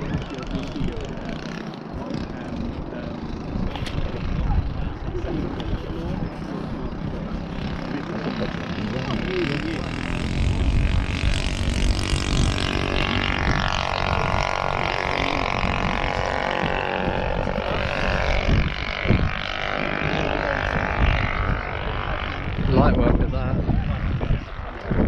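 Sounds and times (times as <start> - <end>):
model aircraft engine droning: 0.0 - 25.0
wind on microphone: 0.0 - 25.0.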